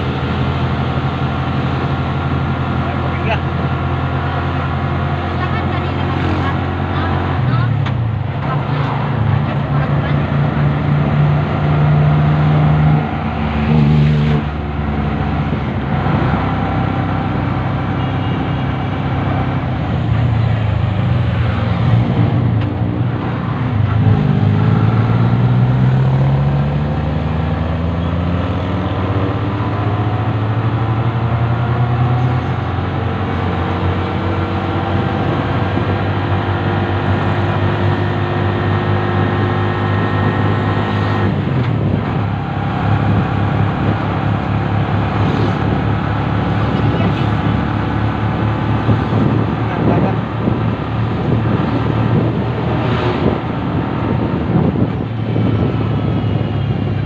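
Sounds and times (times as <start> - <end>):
vehicle engine running: 0.0 - 57.0
wind and road noise: 0.0 - 57.0.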